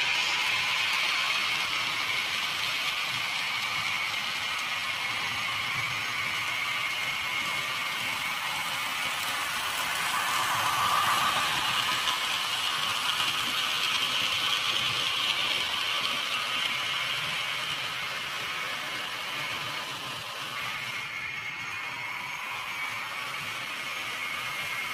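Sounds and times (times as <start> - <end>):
model train wheels clattering on rail: 0.0 - 24.9.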